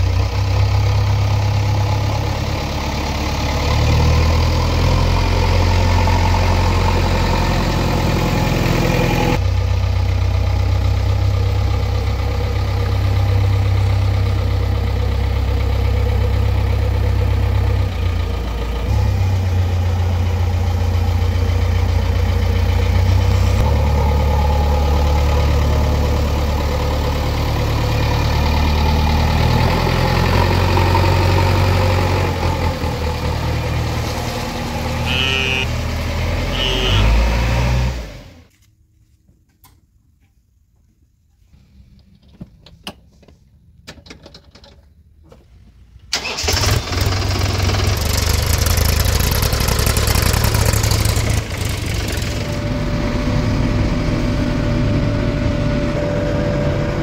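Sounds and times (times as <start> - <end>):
diesel engine running: 0.0 - 38.5, 46.1 - 57.0.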